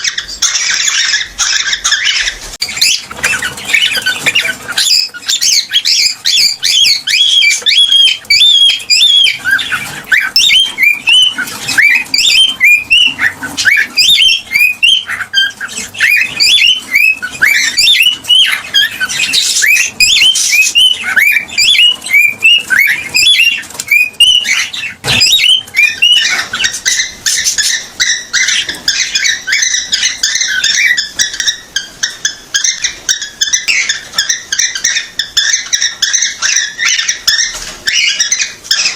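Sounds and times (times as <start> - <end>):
cockatiel whistled chirps: 0.0 - 38.9.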